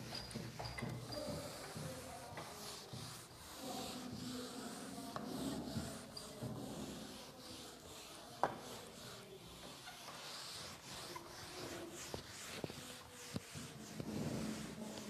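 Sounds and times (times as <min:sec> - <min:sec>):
eraser wiping whiteboard: 0:00.0 - 0:15.0.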